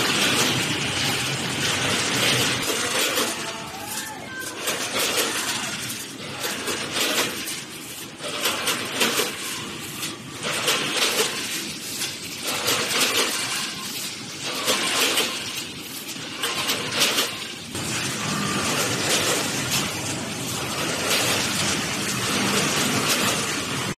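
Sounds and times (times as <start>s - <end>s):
packaging machine bursts: 0.0s - 23.9s
steady machine sound: 0.0s - 23.9s.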